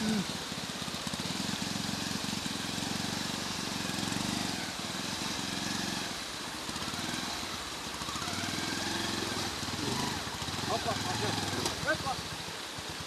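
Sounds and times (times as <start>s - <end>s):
engine running with fast pulsing: 0.0s - 13.0s
steady hiss: 0.0s - 13.0s.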